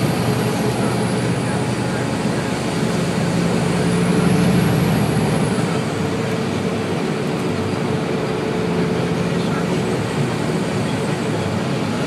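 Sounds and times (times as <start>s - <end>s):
truck road and engine noise: 0.0s - 12.0s.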